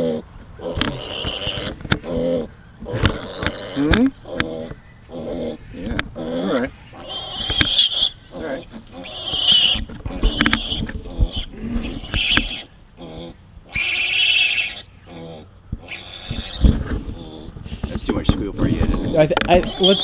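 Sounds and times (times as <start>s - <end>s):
piglet squealing: 0.0s - 17.5s, 18.8s - 20.0s.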